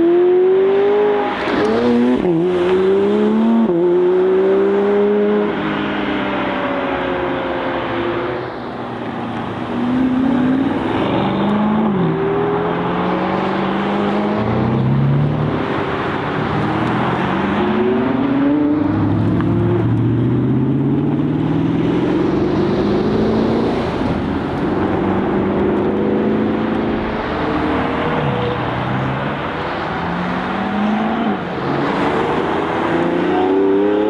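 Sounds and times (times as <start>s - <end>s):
sports car engines accelerating: 0.0s - 34.0s.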